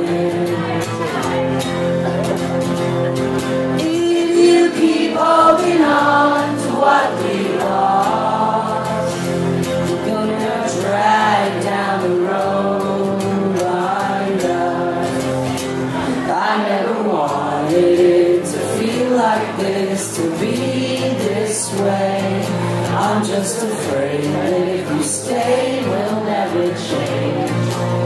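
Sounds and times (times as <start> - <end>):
man singing: 0.0 - 1.3, 3.7 - 28.0
acoustic guitar strumming: 0.0 - 28.0.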